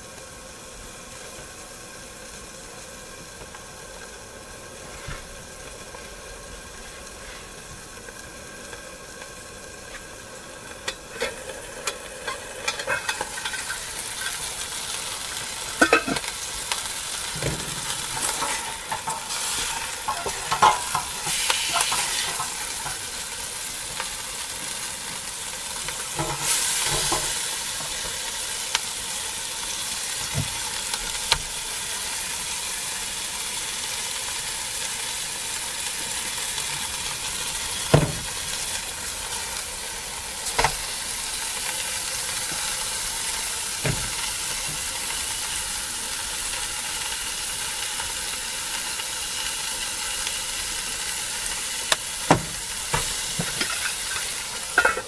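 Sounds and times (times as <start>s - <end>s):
food sizzling in a pot: 0.0s - 55.0s.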